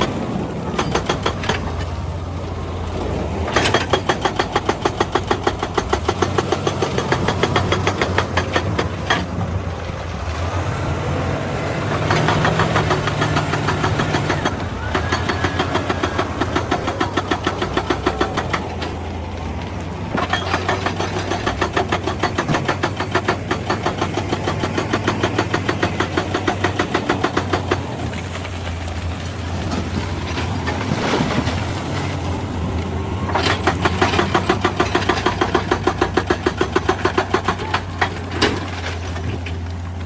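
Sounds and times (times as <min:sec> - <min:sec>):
hydraulic rock breaker hammering: 0:00.0 - 0:10.5, 0:11.5 - 0:40.0
excavator diesel engine running: 0:00.0 - 0:40.0.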